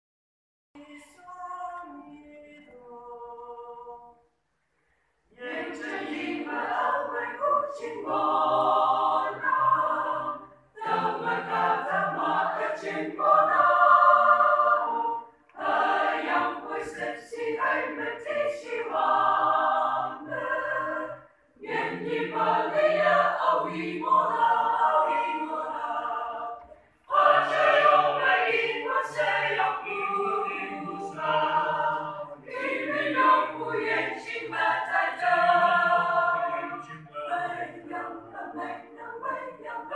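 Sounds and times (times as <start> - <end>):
choir singing: 1.0 - 4.3, 5.3 - 39.9.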